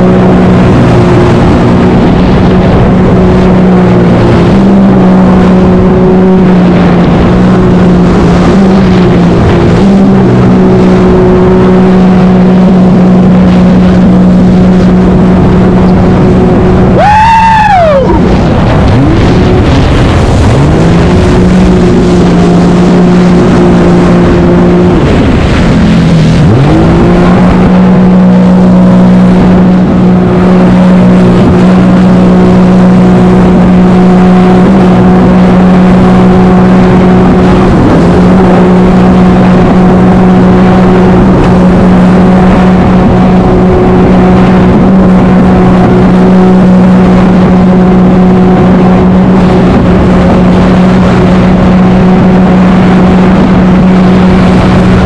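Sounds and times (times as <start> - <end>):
jet ski engine at high revs: 0.0 - 55.0.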